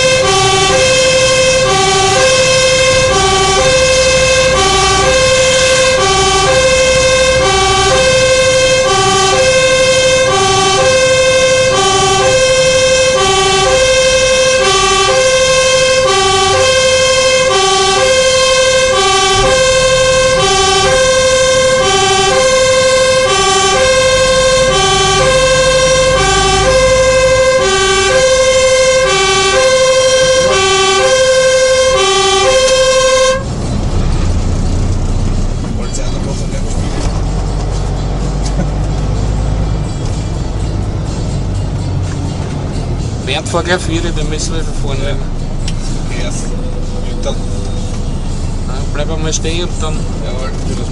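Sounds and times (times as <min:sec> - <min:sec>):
fire engine two-tone siren: 0:00.0 - 0:35.7, 0:36.3 - 0:50.3
engine and tyres rumbling: 0:00.0 - 0:50.9.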